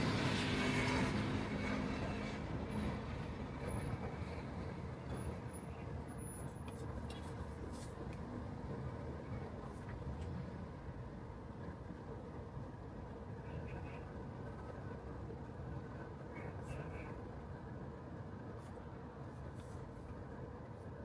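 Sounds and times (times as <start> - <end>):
road and tyre noise: 0.0 - 21.0.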